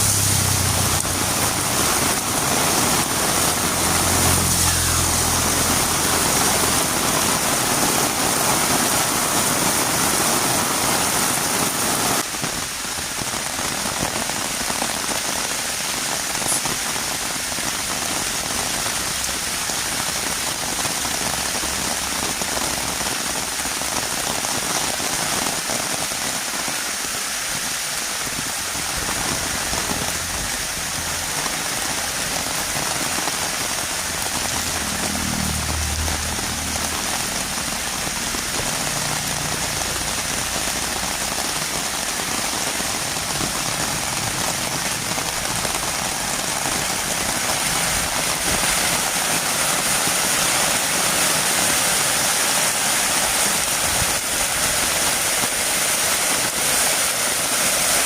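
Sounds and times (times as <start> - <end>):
heavy rain on road: 0.0 - 58.0.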